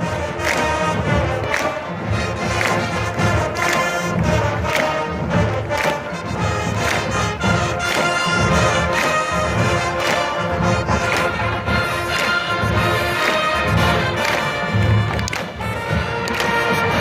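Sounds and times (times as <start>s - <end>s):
brass horns playing: 0.0s - 17.0s
marching drum beat: 0.0s - 17.0s.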